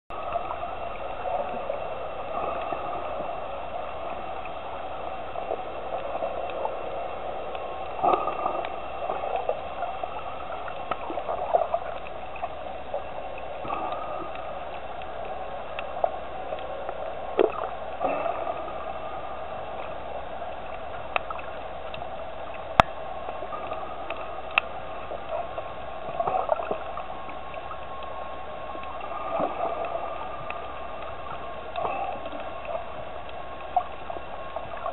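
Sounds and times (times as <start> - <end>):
underwater water rush: 0.1 - 34.9.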